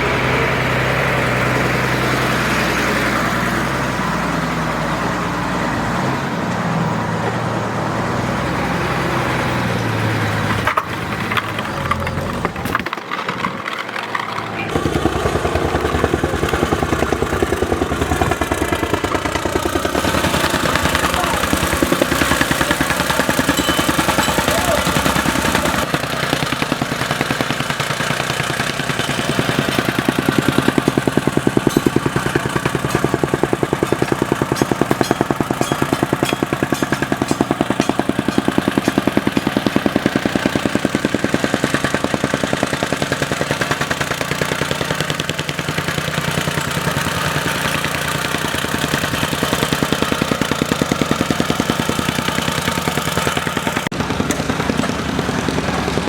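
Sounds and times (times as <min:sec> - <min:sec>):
construction machine engine pulsing: 0:00.0 - 0:56.0.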